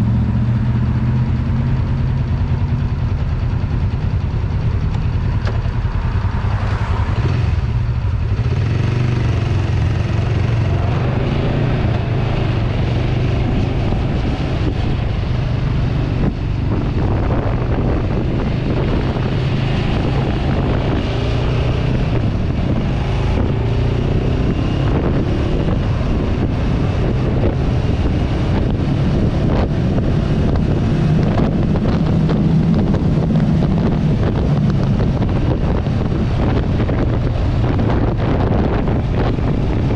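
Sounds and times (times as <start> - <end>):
motorcycle engine idling and running: 0.0 - 39.9
wind buffeting microphone: 2.9 - 39.9.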